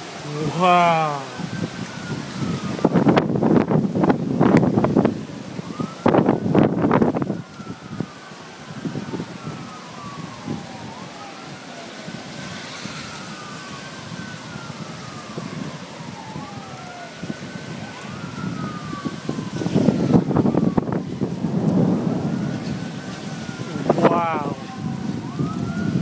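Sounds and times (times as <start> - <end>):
sirens wailing: 0.0 - 26.0
wind and rain rushing: 0.0 - 26.0
wind buffeting microphone: 0.9 - 26.0.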